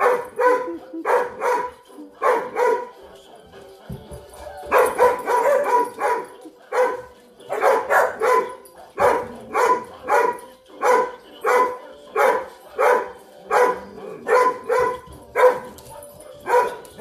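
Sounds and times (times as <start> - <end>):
dog barking: 0.0 - 2.9, 4.7 - 17.0.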